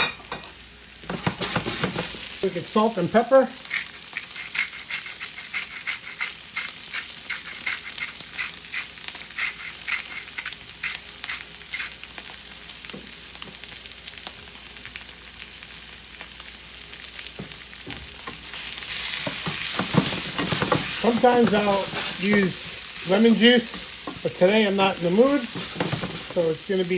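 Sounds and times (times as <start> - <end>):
vegetables sizzling in a frying pan: 0.0 - 26.9.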